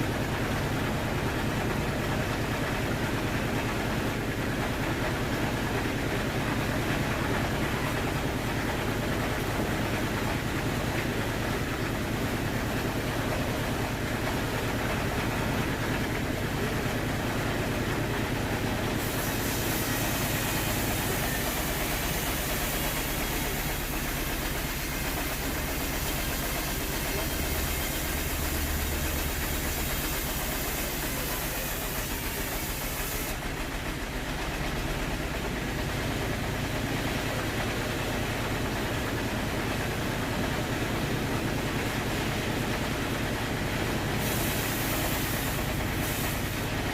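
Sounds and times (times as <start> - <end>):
sawmill saw running: 0.0 - 46.9.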